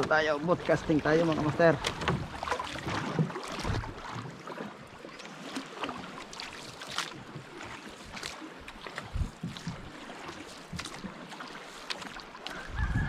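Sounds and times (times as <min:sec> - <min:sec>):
water lapping: 0:00.0 - 0:13.0
water splashing: 0:00.0 - 0:13.0.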